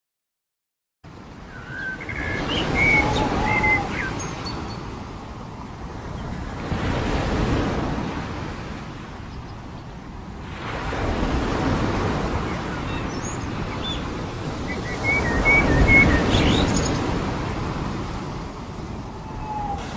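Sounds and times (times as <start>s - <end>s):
rushing wash of noise: 1.1s - 19.9s.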